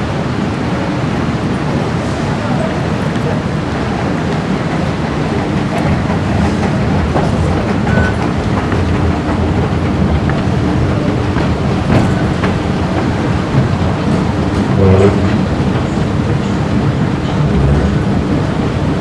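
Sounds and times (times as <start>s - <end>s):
rumble of train wheels on rail: 0.0s - 19.0s.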